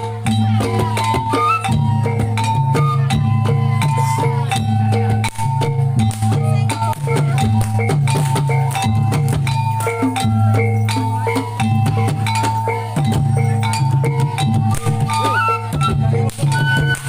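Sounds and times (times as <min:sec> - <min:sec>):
struck metal percussion: 0:00.0 - 0:17.0.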